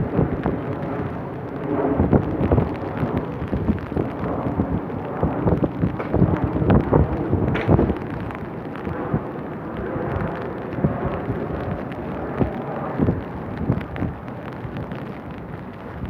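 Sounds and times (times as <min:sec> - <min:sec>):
rain: 0:00.0 - 0:16.0
wind buffeting microphone: 0:00.0 - 0:16.0.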